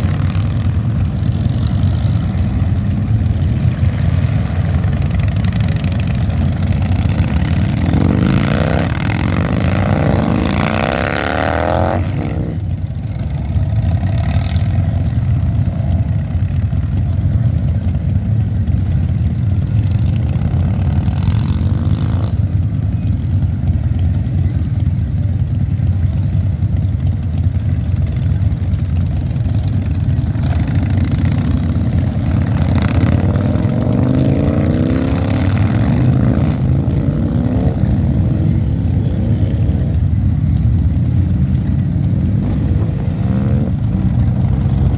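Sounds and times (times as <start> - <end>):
motorcycle engines revving: 0.0 - 44.9
motorcycle engines rumbling: 0.0 - 44.9.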